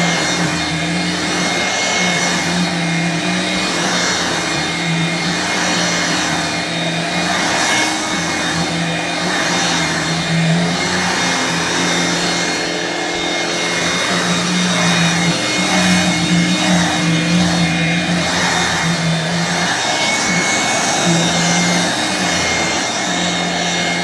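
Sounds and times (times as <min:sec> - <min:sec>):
hand vacuum running: 0:00.0 - 0:24.0.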